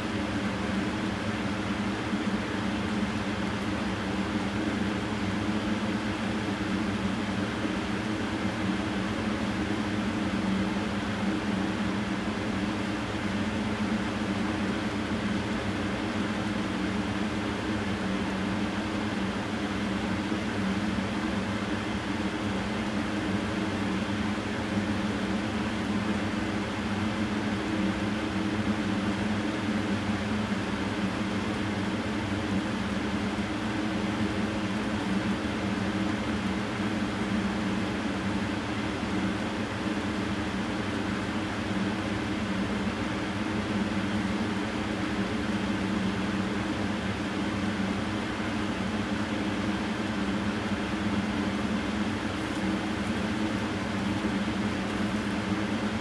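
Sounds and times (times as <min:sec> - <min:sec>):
mechanical hum: 0:00.0 - 0:56.0.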